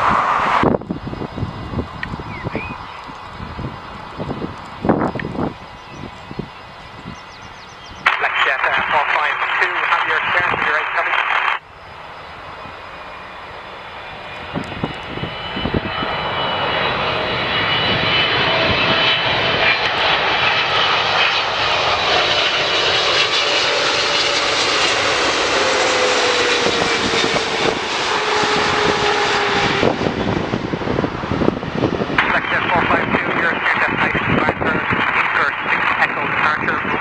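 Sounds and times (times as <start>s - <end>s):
jet airliner engines whining: 0.0s - 37.0s.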